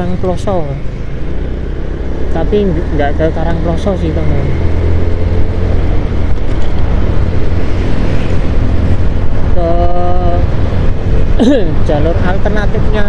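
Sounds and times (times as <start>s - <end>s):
road noise: 0.0s - 13.0s
wind rumble on microphone: 0.0s - 13.0s.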